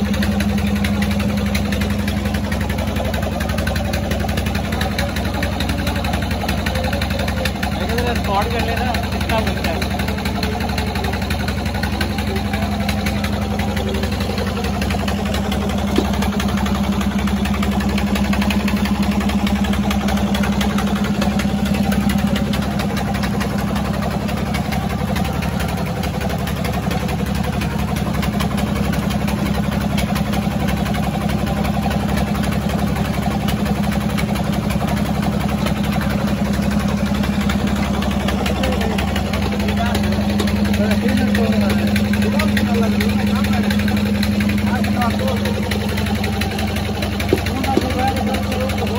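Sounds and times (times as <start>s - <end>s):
oil expeller machine humming: 0.0s - 48.9s.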